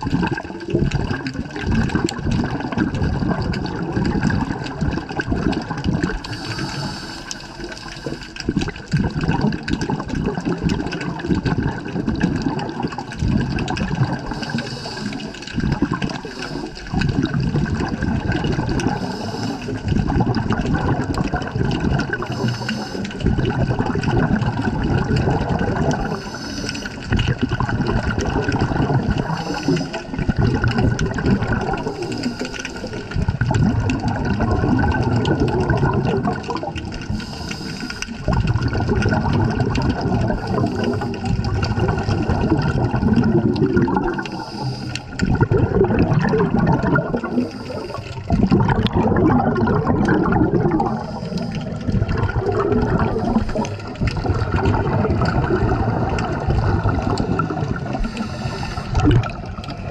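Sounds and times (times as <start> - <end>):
exhaled air bubbling underwater: 0.0 - 59.9.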